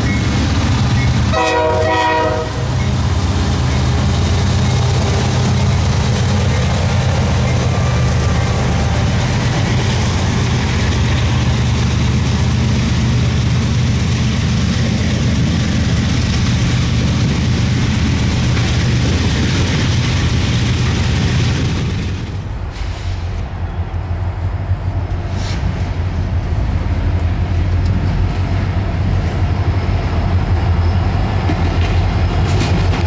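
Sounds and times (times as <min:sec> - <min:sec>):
diesel locomotive passing: 0:00.0 - 0:33.0
train wheels rumbling on rail: 0:00.0 - 0:33.0.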